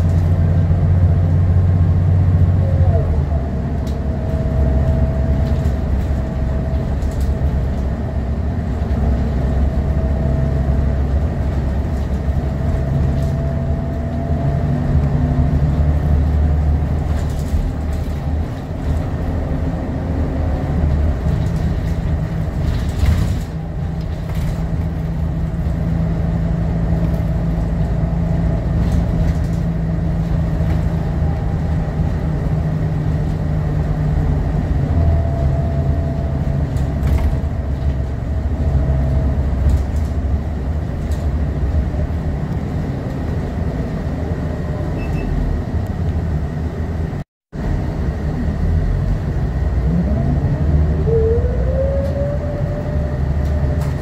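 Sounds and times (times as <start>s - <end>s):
bus body rattles: 0.0s - 49.8s, 51.6s - 54.0s
bus diesel engine driving: 0.0s - 54.0s.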